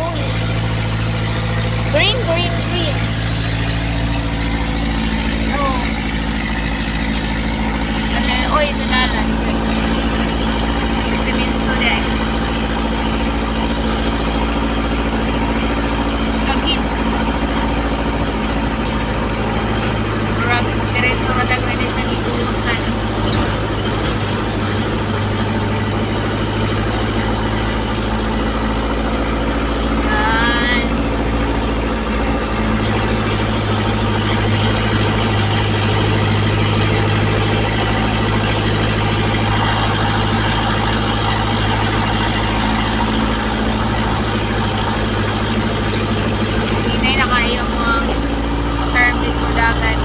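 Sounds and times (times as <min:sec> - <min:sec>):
road and tyre noise: 0:00.0 - 0:50.0
vehicle engine running: 0:00.0 - 0:50.0.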